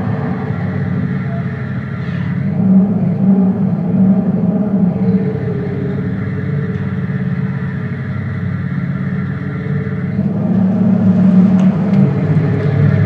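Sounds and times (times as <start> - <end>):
synthesized engine burble from speaker: 0.0 - 13.0.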